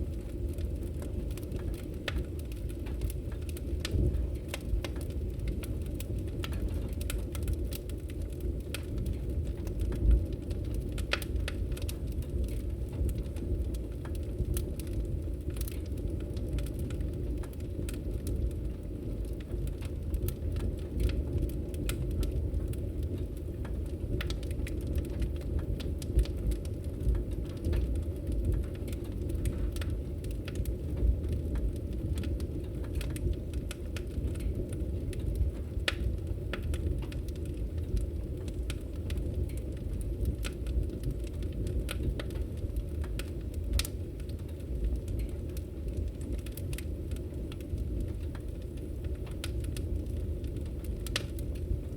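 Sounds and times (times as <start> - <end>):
fire flames rumbling: 0.0 - 51.9
wood fire popping and snapping: 0.0 - 51.9.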